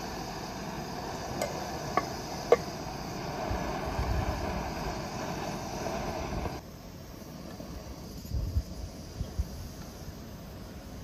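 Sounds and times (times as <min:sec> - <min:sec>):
gas burner hissing: 0:00.0 - 0:11.0.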